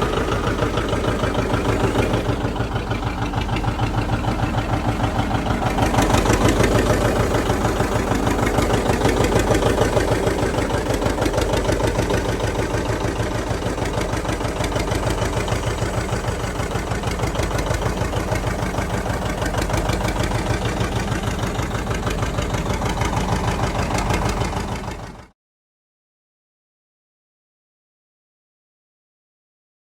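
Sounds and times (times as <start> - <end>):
engine idling: 0.0 - 25.4.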